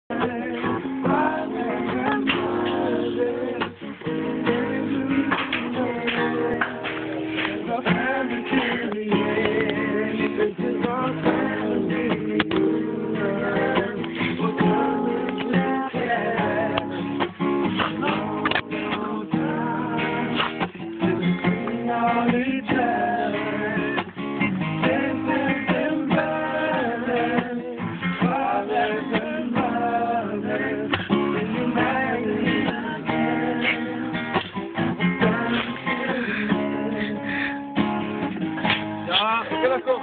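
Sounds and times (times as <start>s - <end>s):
voices singing: 0.0s - 40.0s
strummed acoustic guitar: 0.1s - 40.0s.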